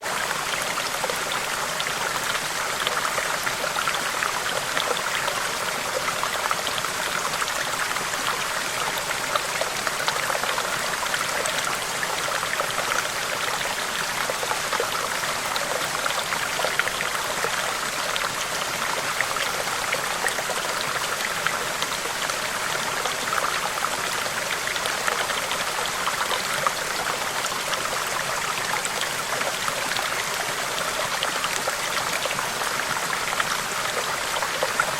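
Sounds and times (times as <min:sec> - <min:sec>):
stream babbling: 0:00.0 - 0:34.9.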